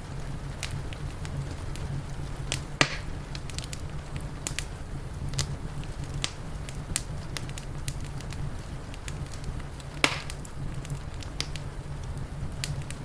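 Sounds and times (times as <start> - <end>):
steady low rumble: 0.0 - 13.0
wood fire crackling: 0.0 - 13.0.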